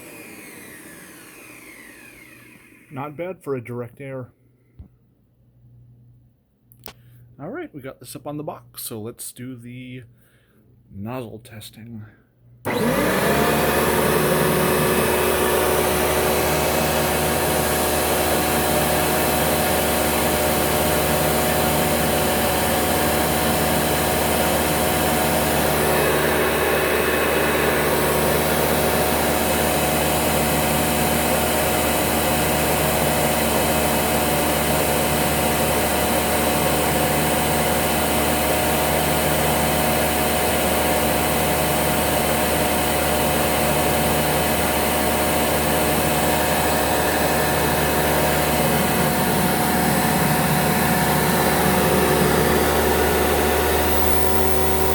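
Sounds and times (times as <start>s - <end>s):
upright vacuum running: 0.0s - 3.1s, 12.6s - 54.9s.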